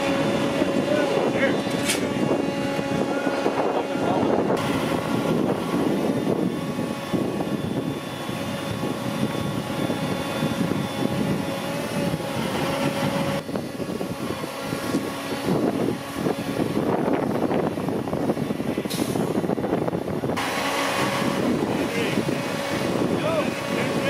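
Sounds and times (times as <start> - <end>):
diesel engine drone: 0.0 - 24.0
steady whining tone: 0.0 - 24.0.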